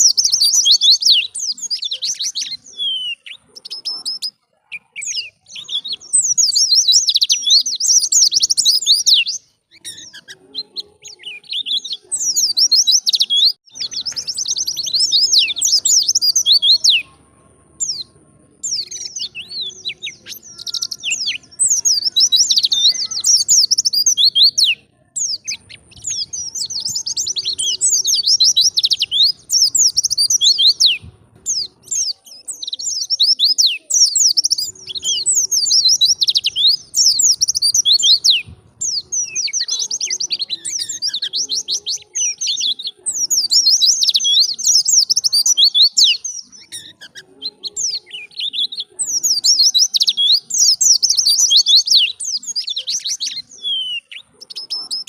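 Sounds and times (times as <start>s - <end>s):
bird twittering: 0.0s - 55.0s.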